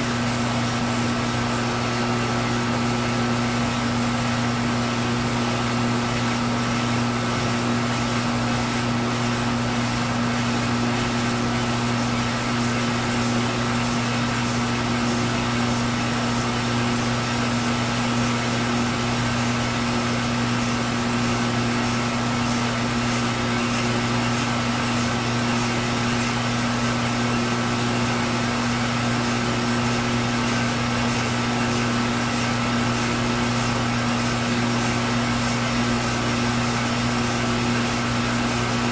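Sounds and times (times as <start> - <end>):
milling machine motor hum: 0.0 - 38.9.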